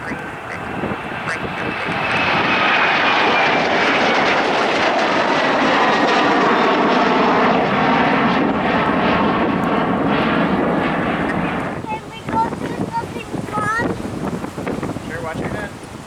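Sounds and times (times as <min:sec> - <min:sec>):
airliner engines rushing: 0:00.0 - 0:16.0.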